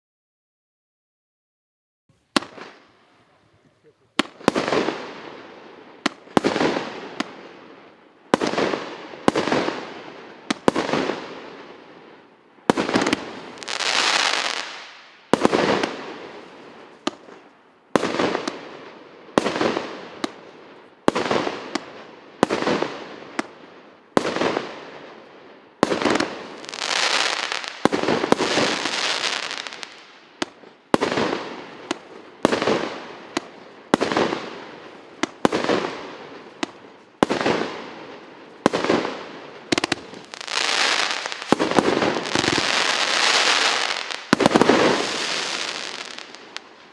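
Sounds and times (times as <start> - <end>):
firework shells bursting and crackling: 2.2 - 46.9.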